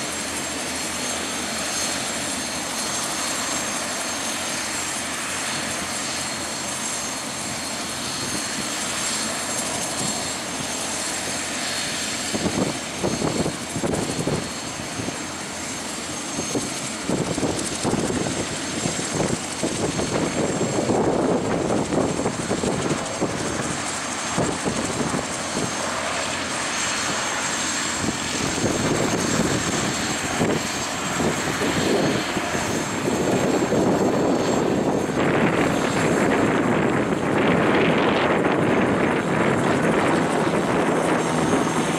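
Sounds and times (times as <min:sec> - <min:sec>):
plane engine and propeller: 0:00.0 - 0:41.9
wind gusts on microphone: 0:00.0 - 0:41.9.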